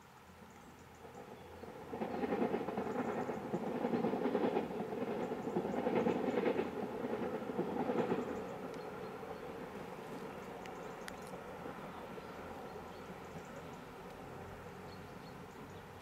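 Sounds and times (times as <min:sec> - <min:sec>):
rhythmic clicks of train wheels: 0:00.0 - 0:16.0
passenger train running: 0:00.8 - 0:16.0.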